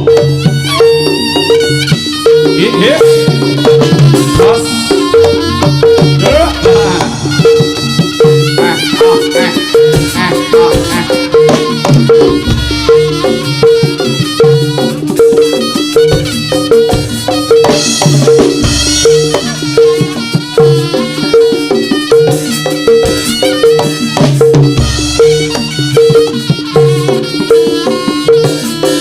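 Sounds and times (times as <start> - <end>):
hand drum strokes: 0.0 - 29.0
high wavering melody: 0.0 - 29.0.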